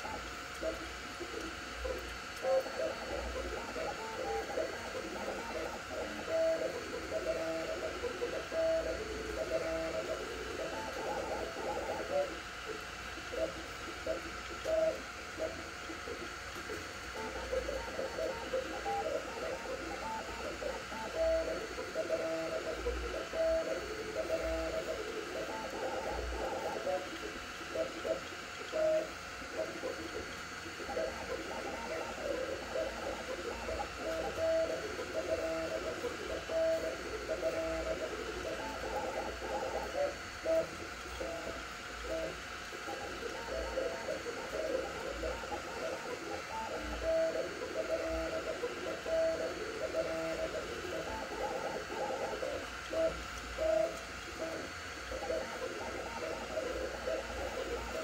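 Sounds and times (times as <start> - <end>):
cooling fans whirring: 0.0 - 58.0
stepper motors singing tones: 0.0 - 58.0.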